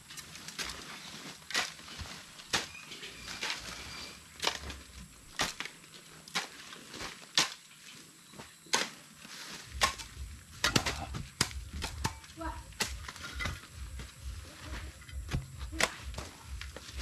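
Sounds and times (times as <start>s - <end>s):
shovel blades striking soil: 0.1s - 2.8s, 4.4s - 7.8s, 8.7s - 14.1s, 14.8s - 17.0s.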